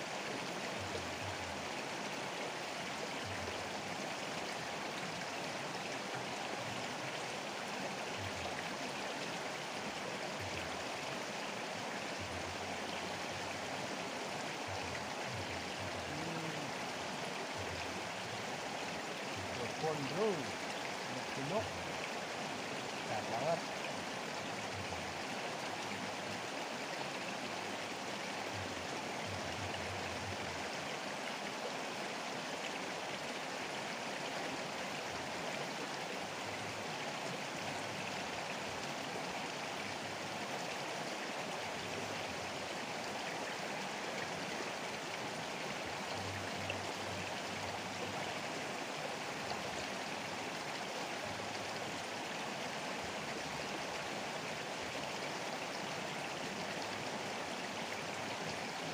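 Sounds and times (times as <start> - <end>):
river rushing: 0.0 - 58.9.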